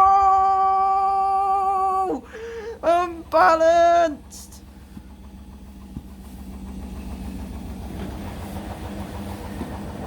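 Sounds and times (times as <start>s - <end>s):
low rumble of shaking machine: 0.0s - 10.0s
washing machine spinning: 0.0s - 10.0s.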